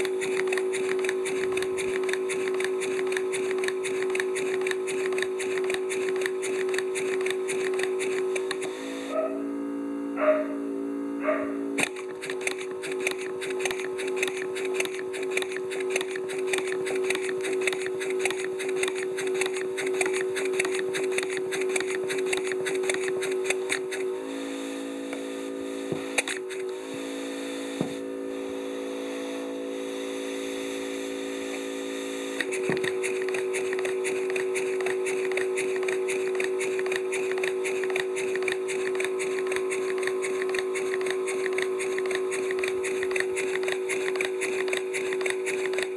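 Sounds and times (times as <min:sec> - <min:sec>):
compressor hum: 0:00.0 - 0:45.9
model steam engine exhaust beats: 0:00.0 - 0:45.9.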